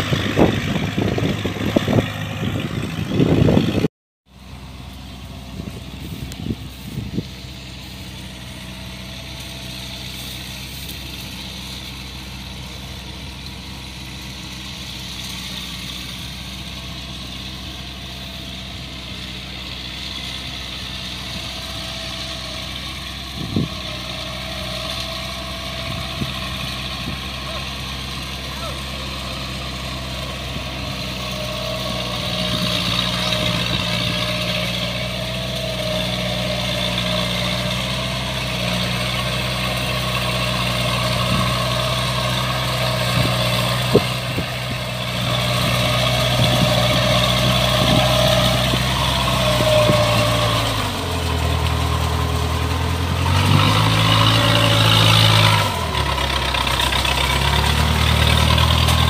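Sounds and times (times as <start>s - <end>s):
tracked carrier engine running: 0.0s - 59.0s.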